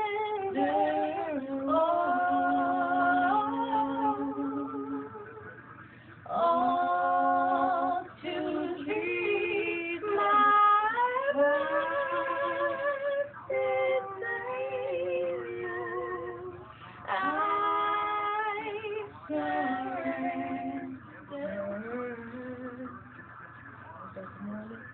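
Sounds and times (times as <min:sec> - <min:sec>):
woman singing unaccompanied: 0:00.0 - 0:05.5, 0:06.3 - 0:23.0, 0:24.2 - 0:24.9.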